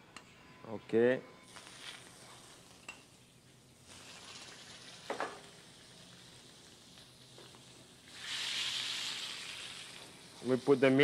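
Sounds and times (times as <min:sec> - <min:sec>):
butter sizzling in a pan: 0:01.5 - 0:11.0.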